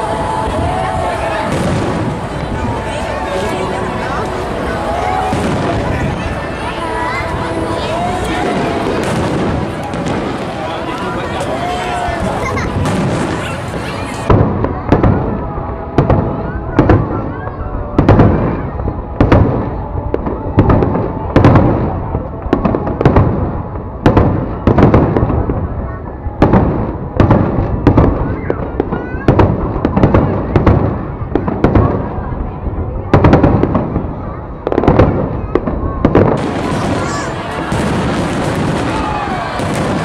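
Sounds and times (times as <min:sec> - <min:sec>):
fireworks bursting: 0:00.0 - 0:40.0
large crowd noise: 0:00.0 - 0:40.0.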